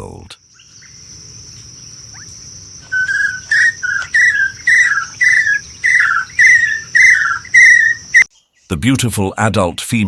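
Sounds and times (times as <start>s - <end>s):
insects buzzing: 0.0s - 8.3s.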